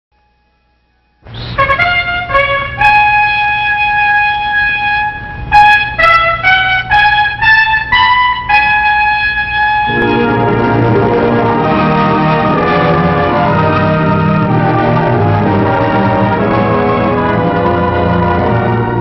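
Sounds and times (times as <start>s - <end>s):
lower musical accompaniment: 0.3s - 19.0s
solo trumpet melody: 1.0s - 19.0s.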